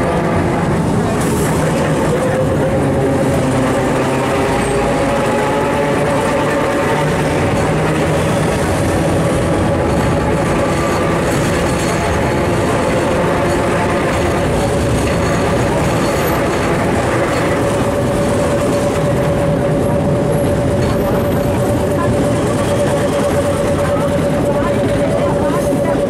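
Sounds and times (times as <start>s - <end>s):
tram wheels rumbling and rattling: 0.0s - 26.0s.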